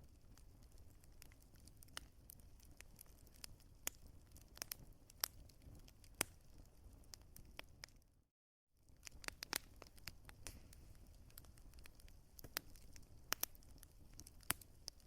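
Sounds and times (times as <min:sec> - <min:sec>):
wood fire crackling: 0:00.0 - 0:08.2, 0:08.8 - 0:15.0.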